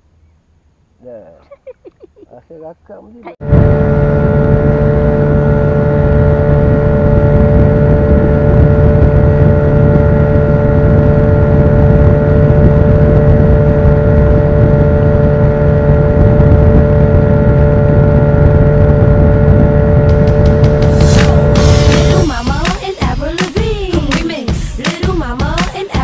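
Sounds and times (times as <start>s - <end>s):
wind: 0.0s - 22.2s
outboard motor running: 3.3s - 26.0s.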